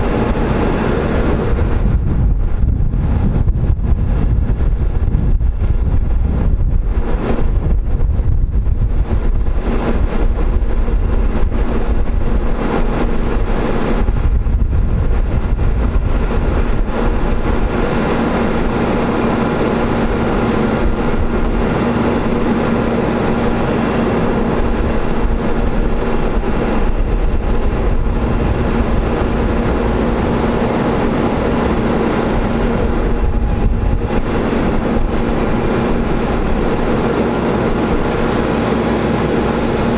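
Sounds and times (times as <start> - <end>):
diesel engine running: 0.0 - 39.9
steady hum: 0.0 - 39.9
wind buffeting microphone: 0.0 - 39.9.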